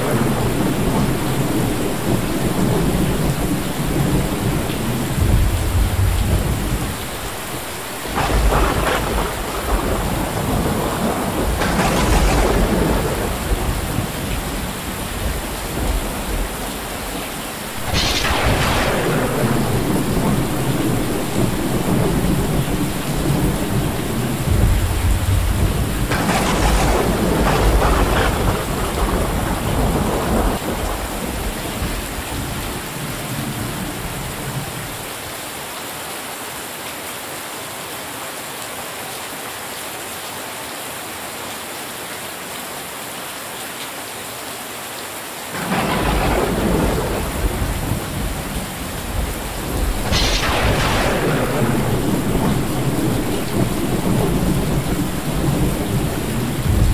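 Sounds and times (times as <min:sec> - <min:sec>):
thunder rumbling and cracking: 0:00.0 - 0:35.0, 0:45.6 - 0:56.9
heavy rain: 0:00.0 - 0:56.9.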